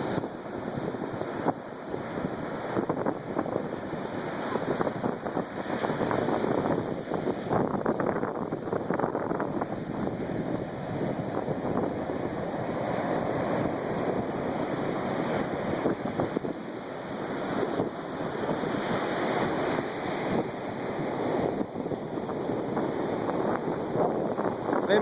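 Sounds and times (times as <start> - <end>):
ocean surf washing onto beach: 0.0 - 25.0
wind buffeting microphone: 0.0 - 25.0.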